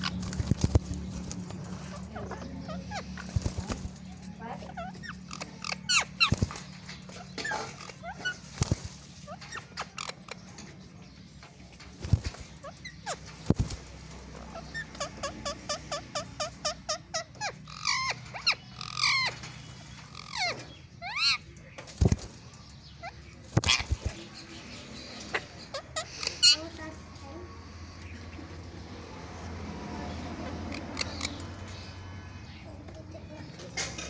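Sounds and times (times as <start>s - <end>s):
parakeets chirping and calling: 0.0s - 34.0s
parakeets screeching: 0.0s - 34.0s.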